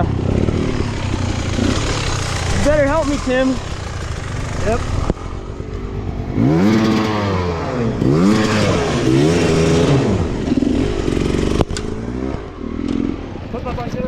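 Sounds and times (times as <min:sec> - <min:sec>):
dirt bike engine revving: 0:00.0 - 0:13.4.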